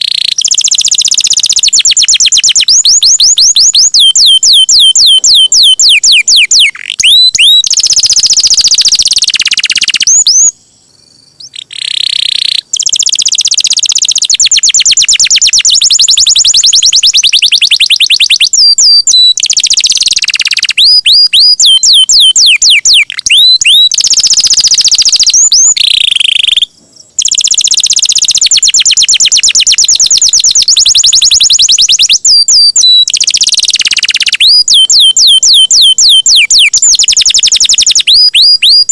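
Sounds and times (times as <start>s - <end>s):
canary singing: 0.0s - 10.6s, 11.4s - 38.9s.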